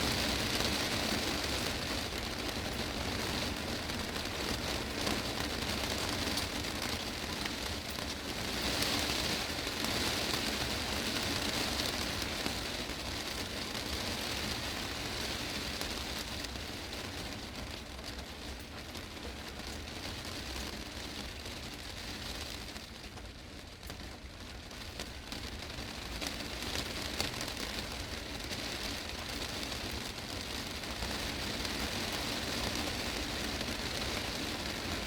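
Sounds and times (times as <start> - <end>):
heavy rain on a glass roof: 0.0 - 35.0.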